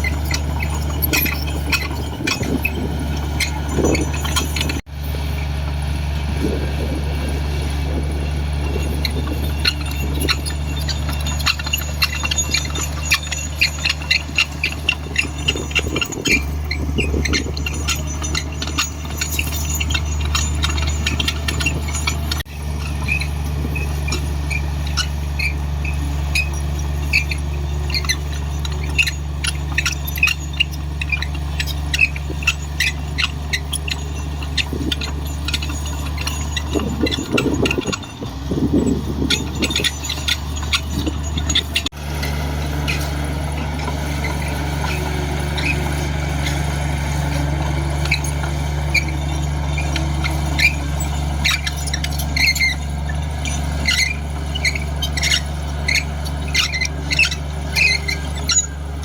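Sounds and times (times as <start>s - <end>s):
bulldozer diesel engine running: 0.0s - 59.0s
high squeaks and squeals: 0.0s - 59.0s.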